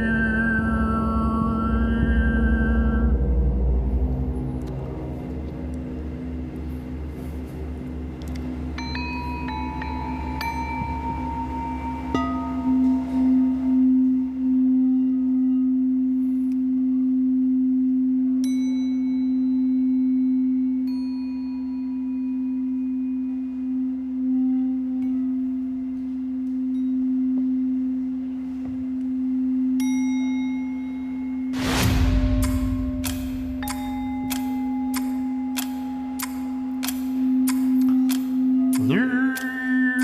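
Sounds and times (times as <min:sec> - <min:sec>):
singing bowl low tone: 0:00.0 - 0:40.0.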